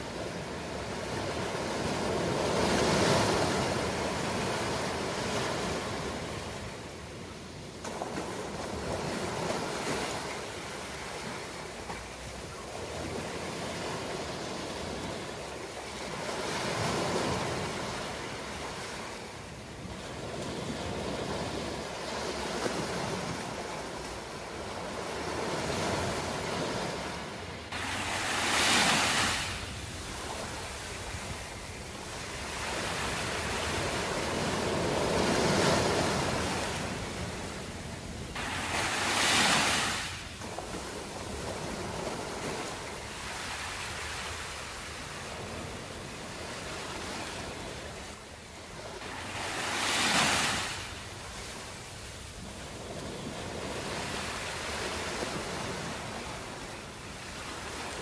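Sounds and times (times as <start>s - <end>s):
ocean waves washing in: 0.0s - 58.0s
waves breaking: 0.0s - 58.0s.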